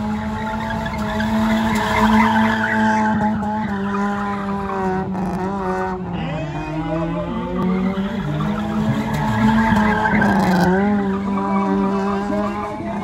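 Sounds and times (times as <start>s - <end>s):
car engine at high revs: 0.0s - 13.0s
tyres skidding: 0.0s - 13.0s.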